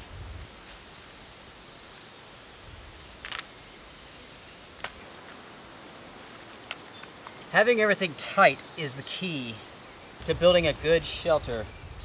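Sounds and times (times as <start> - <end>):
quiet steady hiss: 0.0 - 12.0.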